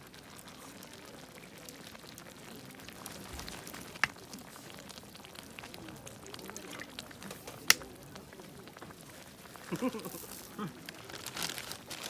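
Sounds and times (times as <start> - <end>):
pot simmering with pops and bubbles: 0.0 - 12.0.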